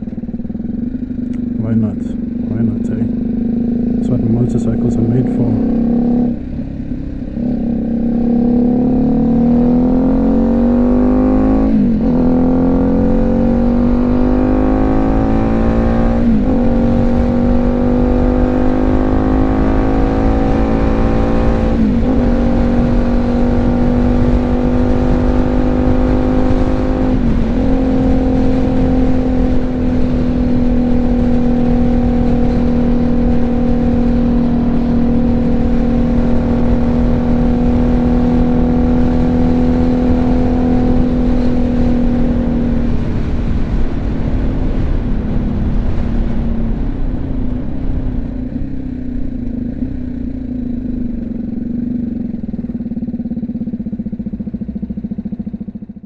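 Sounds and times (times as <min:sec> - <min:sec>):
motorcycle engine accelerating: 0:00.0 - 0:56.0
wind rush on microphone: 0:05.6 - 0:51.5.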